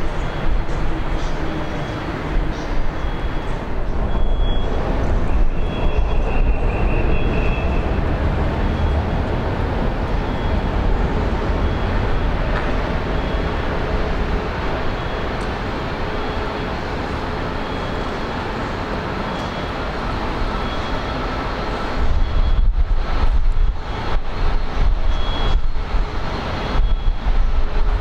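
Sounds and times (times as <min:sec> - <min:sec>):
moving vehicle rumble: 0:00.0 - 0:28.0.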